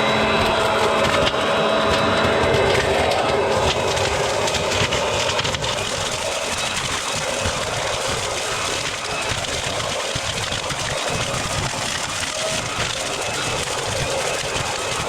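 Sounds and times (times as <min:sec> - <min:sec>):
garden blower running: 0:00.0 - 0:15.0.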